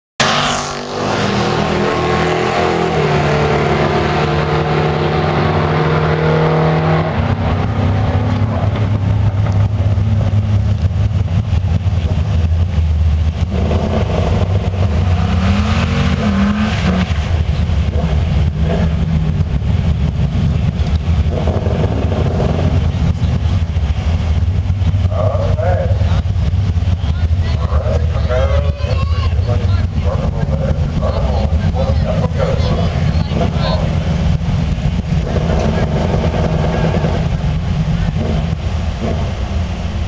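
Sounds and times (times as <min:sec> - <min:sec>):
car engine at high revs: 0:00.2 - 0:40.0
engine revving: 0:00.2 - 0:40.0
engines idling: 0:00.2 - 0:40.0.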